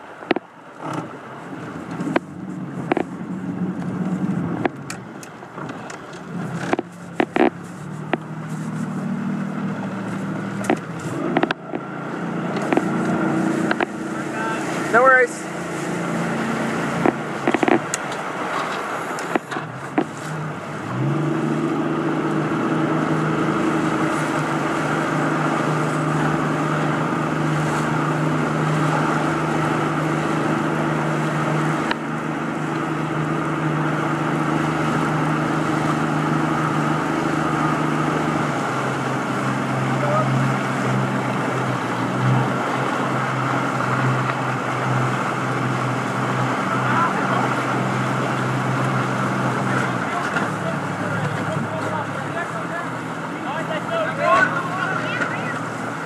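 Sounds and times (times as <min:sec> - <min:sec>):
outboard motor running: 0:00.0 - 0:56.0
water noise: 0:00.0 - 0:56.0
wind: 0:00.0 - 0:56.0.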